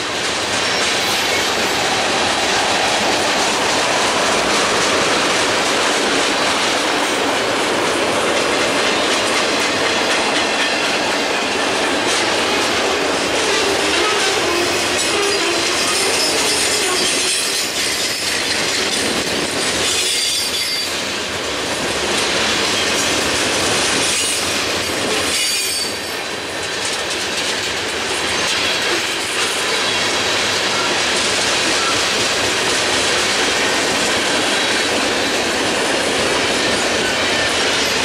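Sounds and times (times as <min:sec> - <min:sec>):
freight train wheels clacking: 0:00.0 - 0:38.0.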